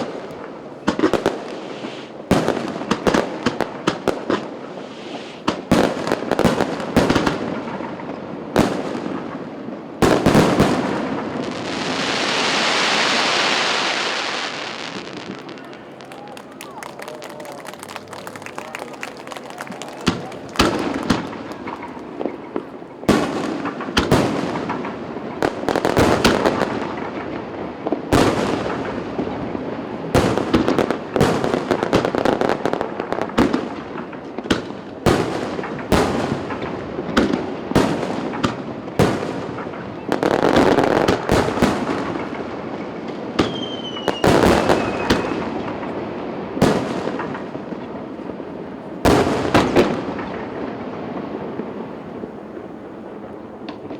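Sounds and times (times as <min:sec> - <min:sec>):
fireworks bangs: 0:00.0 - 0:53.9
fireworks crackling and rumbling: 0:00.0 - 0:53.9.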